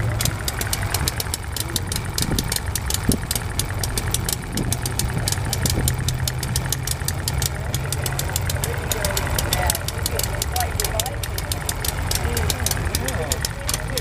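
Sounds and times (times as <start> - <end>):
model engine idling: 0.0 - 14.0.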